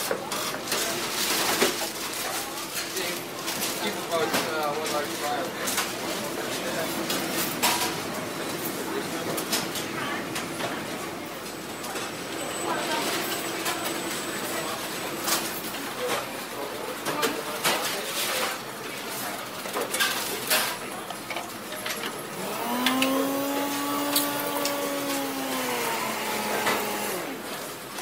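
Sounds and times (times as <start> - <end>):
murmur of voices: 0.0 - 28.0
utensils and dishes clinking: 0.0 - 28.0.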